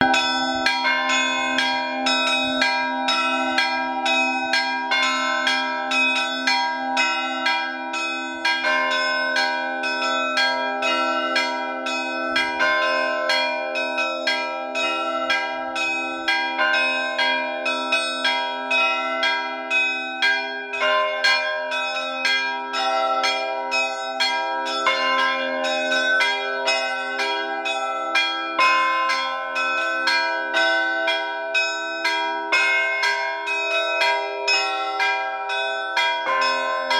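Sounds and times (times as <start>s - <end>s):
large bells ringing: 0.0s - 36.9s.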